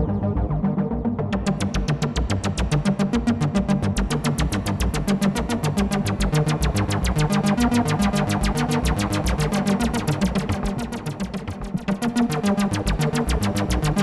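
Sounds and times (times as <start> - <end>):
bass synthesizer arpeggio: 0.0 - 14.0.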